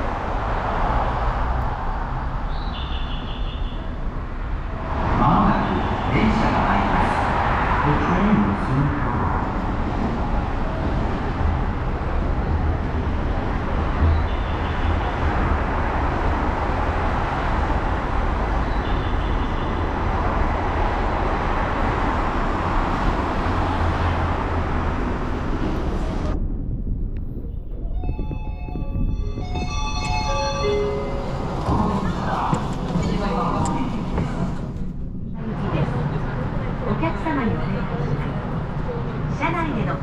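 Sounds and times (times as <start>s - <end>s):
train wheels rumbling on track: 3.8s - 40.0s.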